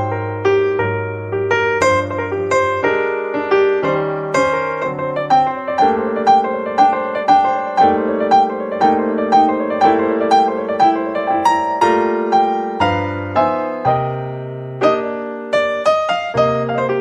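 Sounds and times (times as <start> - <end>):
upbeat piano music: 0.0 - 17.0.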